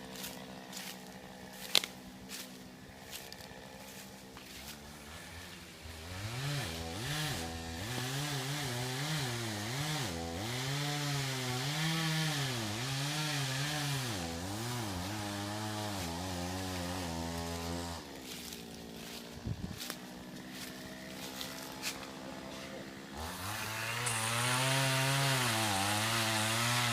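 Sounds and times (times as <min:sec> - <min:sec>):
small engine revving and idling: 0:00.0 - 0:26.9.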